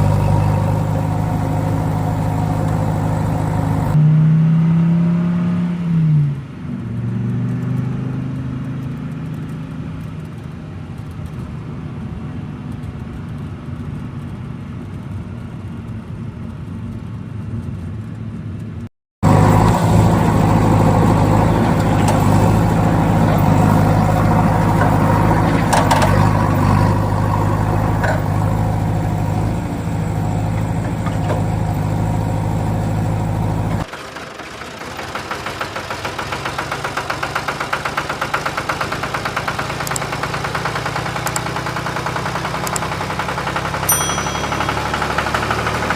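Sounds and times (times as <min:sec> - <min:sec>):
vehicle engine running: 0:00.0 - 0:04.0, 0:06.4 - 0:45.9.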